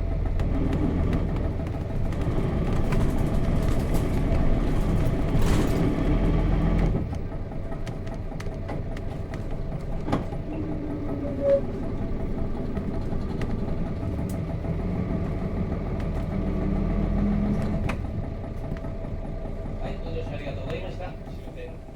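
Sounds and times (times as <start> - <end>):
bus diesel engine idling: 0.0 - 21.9.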